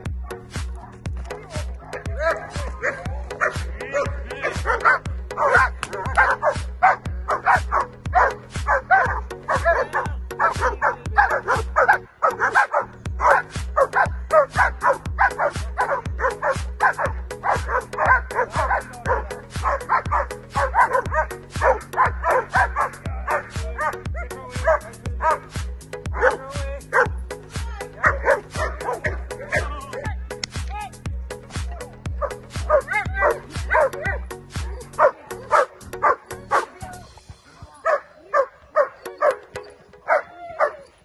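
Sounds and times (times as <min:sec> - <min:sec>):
background music with steady beat: 0:00.0 - 0:41.0
dogs barking hard: 0:01.8 - 0:27.3, 0:28.0 - 0:29.7, 0:32.1 - 0:36.8, 0:37.8 - 0:40.8.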